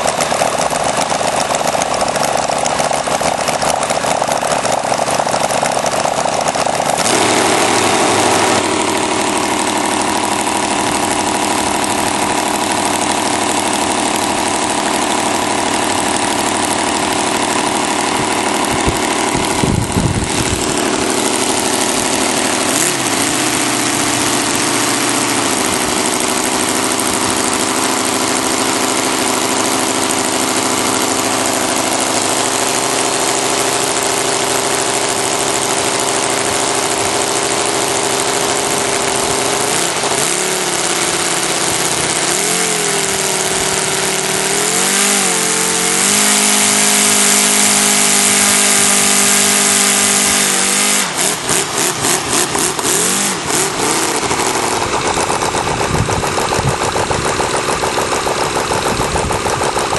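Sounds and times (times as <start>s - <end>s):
model aircraft engine running: 0.0s - 59.9s.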